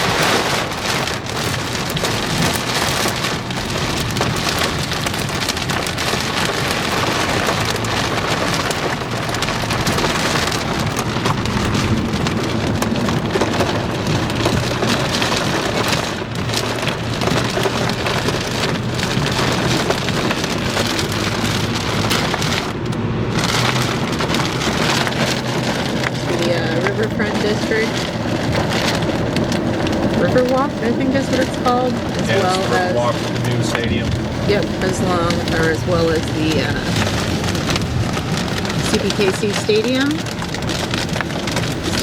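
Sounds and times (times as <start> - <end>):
heavy rain on car windshield: 0.0 - 42.0
low vehicle road hum: 0.0 - 42.0.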